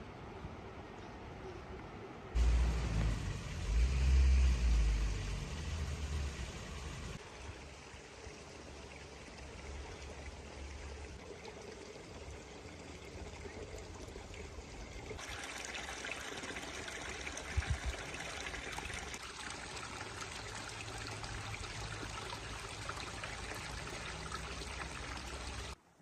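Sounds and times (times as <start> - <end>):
water running: 2.4 - 25.8.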